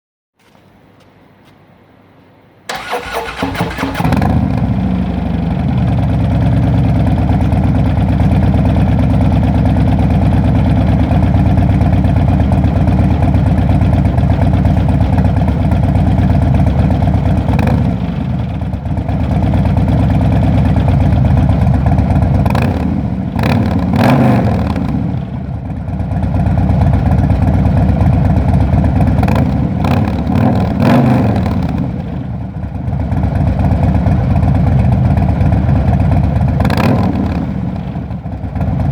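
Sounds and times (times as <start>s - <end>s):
motorcycle engine idling and revving: 2.7s - 38.9s.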